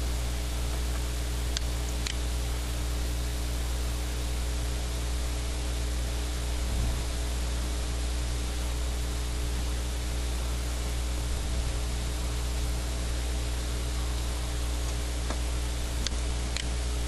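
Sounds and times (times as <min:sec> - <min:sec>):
low electrical hum: 0:00.0 - 0:17.0
steady hiss: 0:00.0 - 0:17.0.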